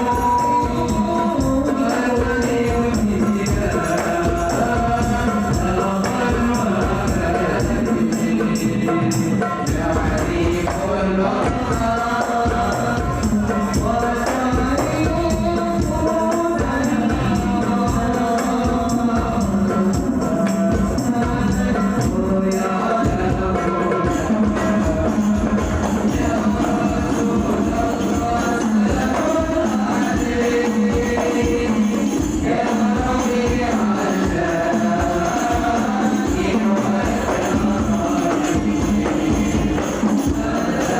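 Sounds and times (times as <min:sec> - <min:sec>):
frame drums with jingles: 0:00.0 - 0:40.9
group singing devotional chorus: 0:00.0 - 0:40.9.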